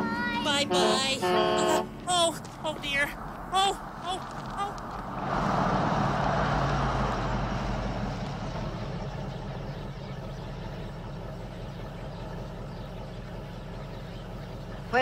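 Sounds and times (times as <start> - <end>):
truck engine idling: 0.0 - 15.0
tyres rolling on gravel: 0.0 - 15.0.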